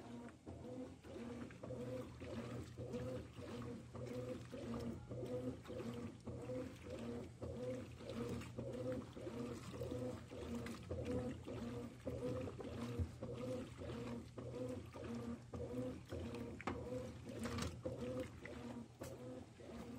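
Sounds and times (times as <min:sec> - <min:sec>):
washing machine motor whirring: 0:00.0 - 0:19.9
water sloshing: 0:00.0 - 0:19.9.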